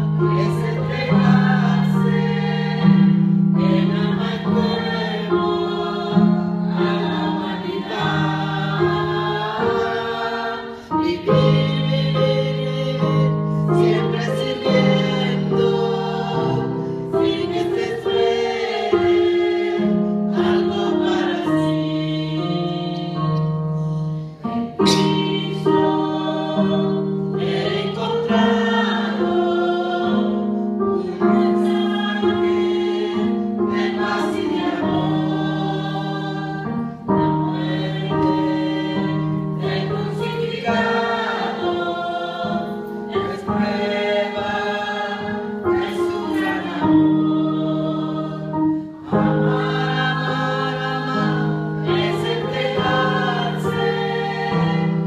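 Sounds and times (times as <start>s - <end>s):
women singing a hymn: 0.0s - 55.0s.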